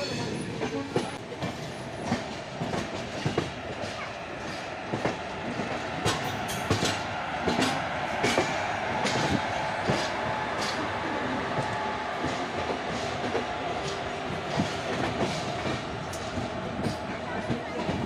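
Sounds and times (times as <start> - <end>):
train running gear rumble: 0.0 - 18.0.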